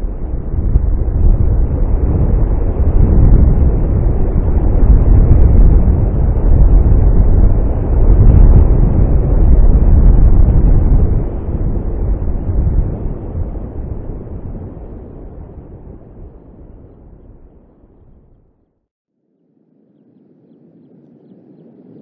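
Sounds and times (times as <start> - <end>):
wind buffeting microphone: 0.0 - 18.5.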